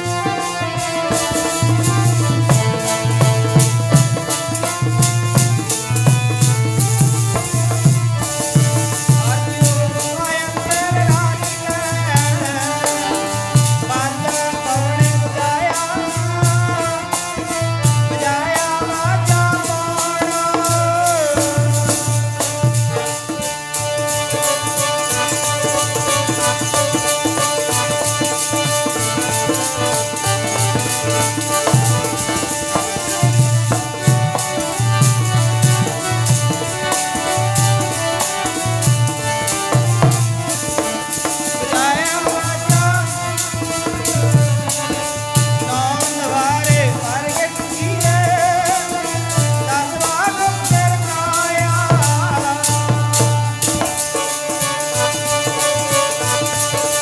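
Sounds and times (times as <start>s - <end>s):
harmonium sustained notes: 0.0s - 57.0s
tabla beat: 0.0s - 57.0s.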